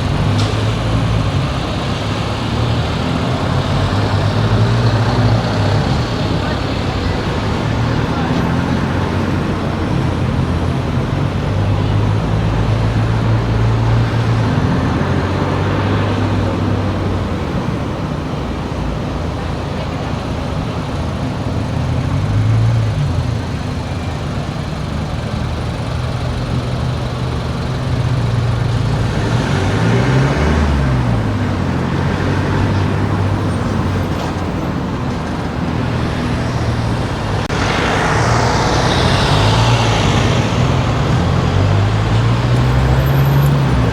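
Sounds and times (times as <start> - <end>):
car engine: 0.0 - 43.9
road noise: 0.0 - 43.9.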